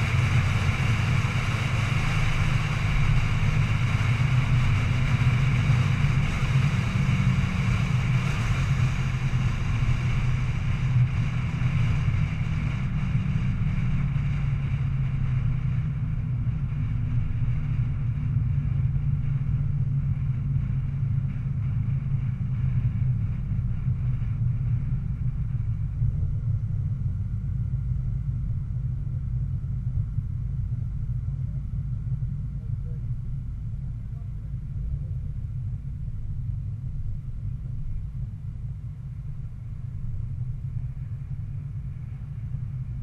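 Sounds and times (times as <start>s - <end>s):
car engine running at low revs: 0.0s - 43.0s
wind and road noise: 0.0s - 43.0s.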